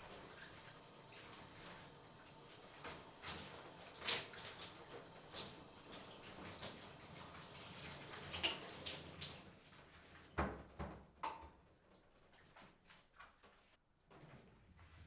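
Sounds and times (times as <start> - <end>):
shower water running: 0.0 - 13.7.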